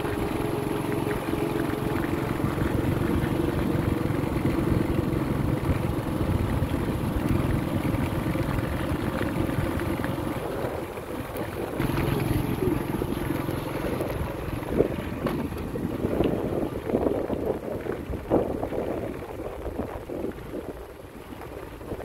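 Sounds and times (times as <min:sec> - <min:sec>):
distant jet engines rumbling: 0:00.0 - 0:21.1
wind buffeting microphone: 0:00.0 - 0:22.0.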